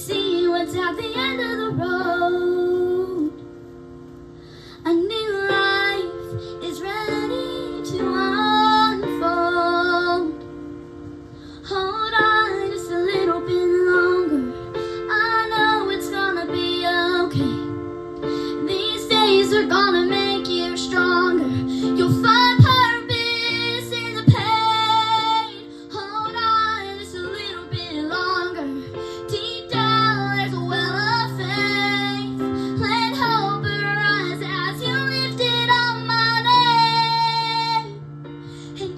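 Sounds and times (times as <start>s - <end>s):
instrumental accompaniment holding chords: 0.0s - 38.9s.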